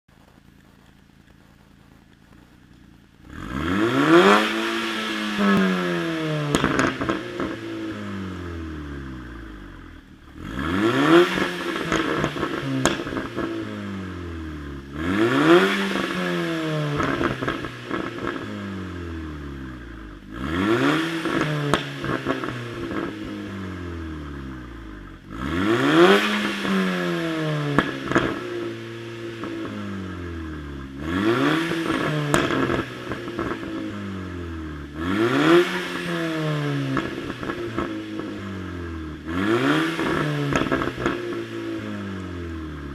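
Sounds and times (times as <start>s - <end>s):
exhaust crackles: 0.0s - 42.9s
car engine revving: 0.2s - 42.9s.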